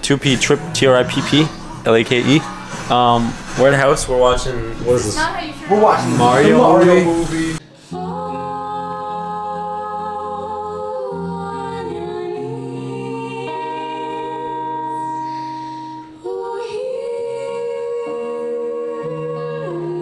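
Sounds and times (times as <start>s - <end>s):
group singing in harmony: 0.0s - 20.0s.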